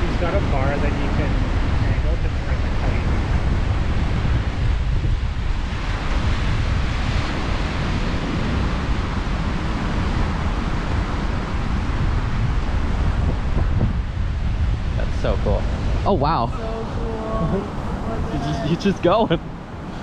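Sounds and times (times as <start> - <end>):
ocean surf on a beach: 0.0 - 15.0, 15.6 - 20.0
wind buffeting microphone: 0.0 - 20.0.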